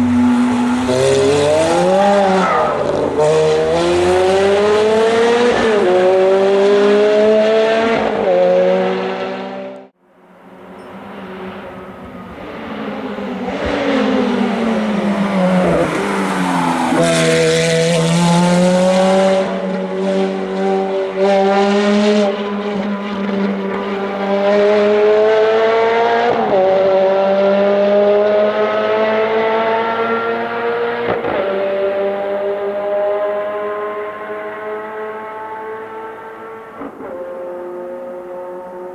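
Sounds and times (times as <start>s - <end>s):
sports car engine on track: 0.0s - 38.9s.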